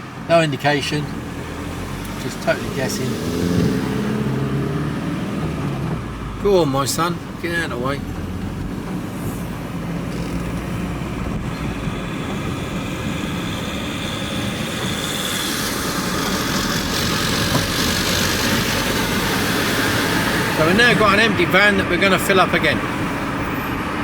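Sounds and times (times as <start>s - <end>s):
van engine and road noise: 0.0s - 24.0s.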